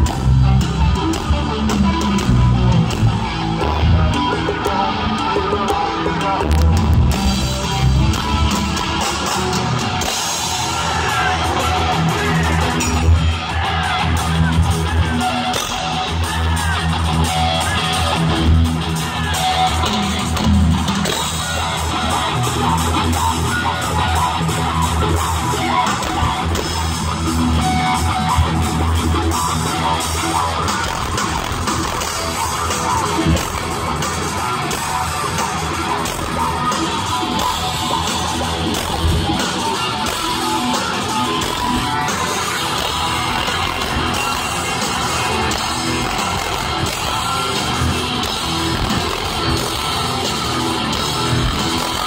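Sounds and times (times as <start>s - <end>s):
heavy bass guitar: 0.0s - 52.0s
live rock band playing: 0.0s - 52.0s.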